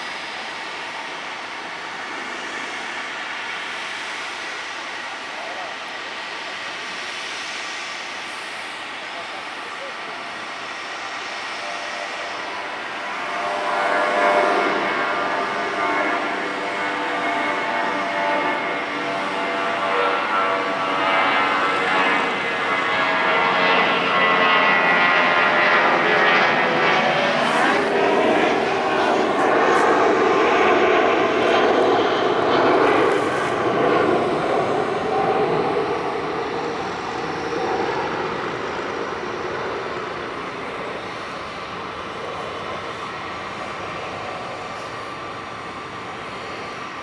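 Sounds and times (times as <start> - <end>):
jet airliner taking off: 0.0 - 47.0.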